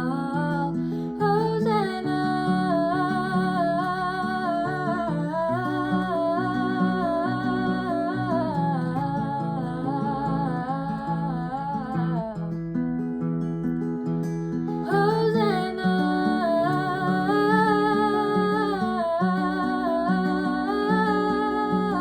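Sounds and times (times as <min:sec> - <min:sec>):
woman singing: 0:00.0 - 0:12.7, 0:14.7 - 0:22.0
acoustic guitar chords: 0:00.0 - 0:22.0.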